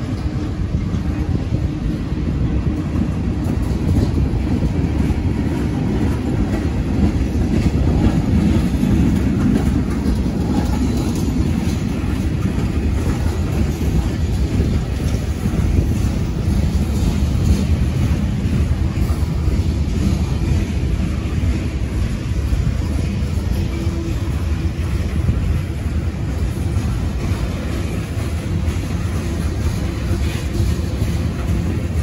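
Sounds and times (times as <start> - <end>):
freight train wheels rumbling on rails: 0.0 - 32.0.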